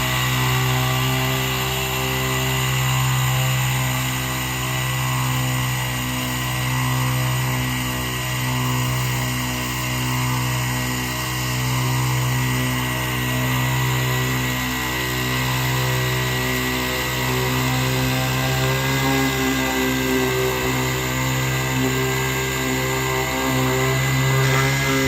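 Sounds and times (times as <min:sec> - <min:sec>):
machine engine running steadily: 0:00.0 - 0:25.0.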